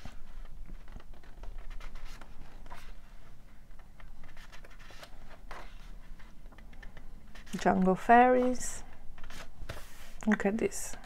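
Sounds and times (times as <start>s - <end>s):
book pages turning: 0.0s - 10.6s.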